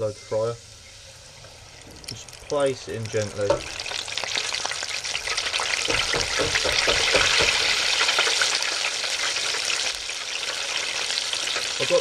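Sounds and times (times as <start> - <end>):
meat frying in oil: 0.0 - 12.0.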